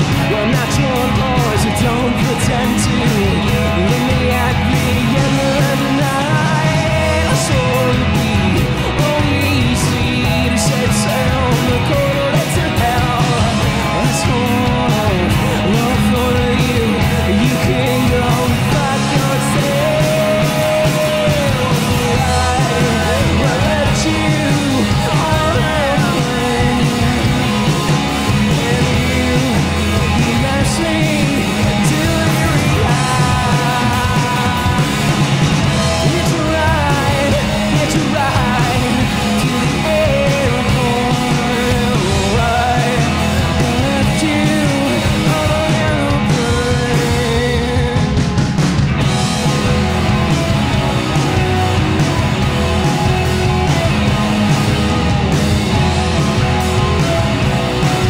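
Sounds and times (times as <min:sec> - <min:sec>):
drum kit: 0:00.0 - 0:58.0
electric bass: 0:00.0 - 0:58.0
electric guitar: 0:00.0 - 0:58.0
man singing and shouting: 0:00.0 - 0:58.0.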